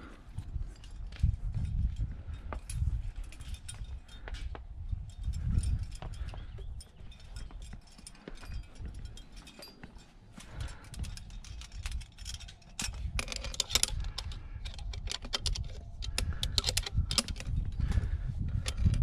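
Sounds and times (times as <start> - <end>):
carabiners clicking and jingling: 0.0 - 19.0.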